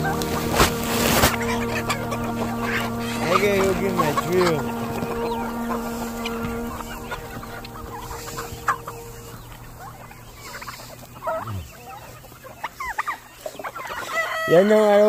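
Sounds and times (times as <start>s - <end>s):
steady hum: 0.0s - 13.8s
chickens clucking: 0.0s - 15.0s.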